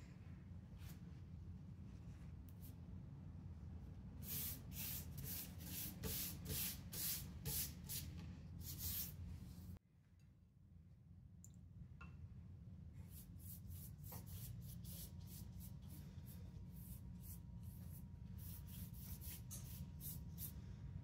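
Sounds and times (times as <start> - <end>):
low steady hum: 0.0 - 6.6, 8.1 - 21.0.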